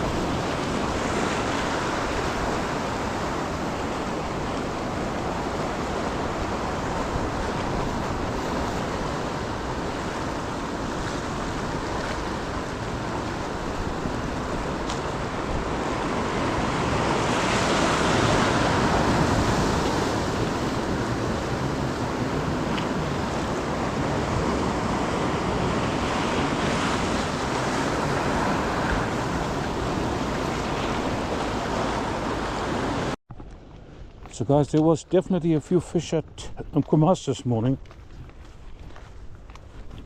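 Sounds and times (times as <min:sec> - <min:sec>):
ocean surf breaking on shore: 0:00.0 - 0:33.2.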